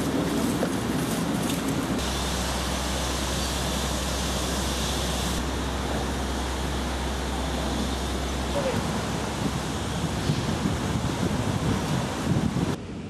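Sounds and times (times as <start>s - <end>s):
rushing outdoor noise: 0.0s - 13.0s
low hum: 2.0s - 13.0s.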